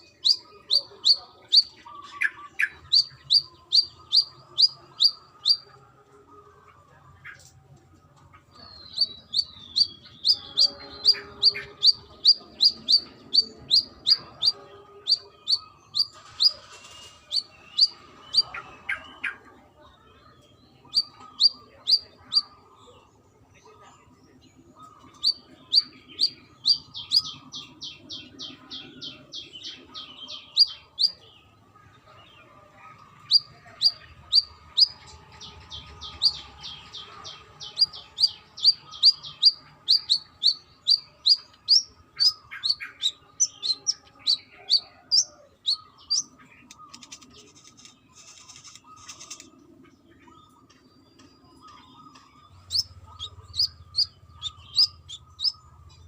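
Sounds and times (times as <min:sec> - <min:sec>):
sunbird chirping: 0:00.0 - 0:05.7, 0:08.6 - 0:19.3, 0:24.8 - 0:31.5, 0:33.1 - 0:49.5, 0:50.1 - 0:56.0.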